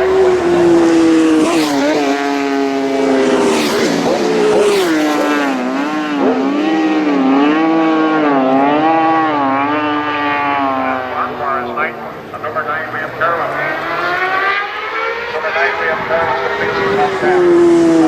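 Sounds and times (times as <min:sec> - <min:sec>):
motorcycle engines revving: 0:00.0 - 0:18.0
motorcycles whooshing past: 0:00.0 - 0:18.0.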